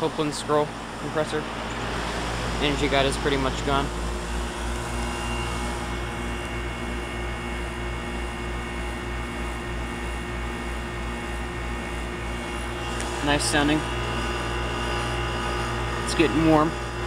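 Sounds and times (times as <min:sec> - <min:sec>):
faint high whine: 0:00.0 - 0:17.0
fan rushing: 0:00.0 - 0:17.0
heat pump compressor humming: 0:00.0 - 0:17.0.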